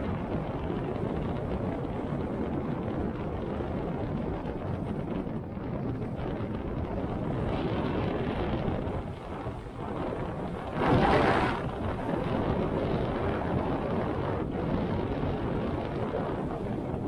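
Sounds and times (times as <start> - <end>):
rumbling wind: 0.0 - 17.0.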